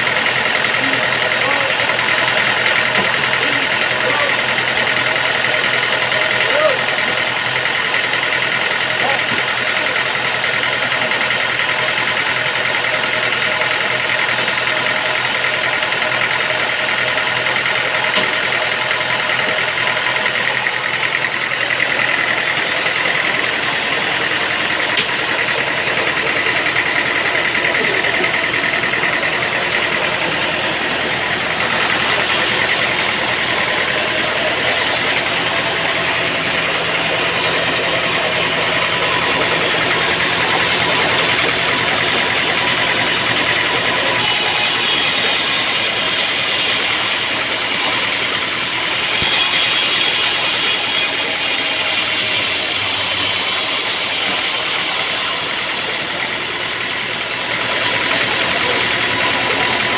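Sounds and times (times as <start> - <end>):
sawmill machinery engine drone: 0.0 - 59.9.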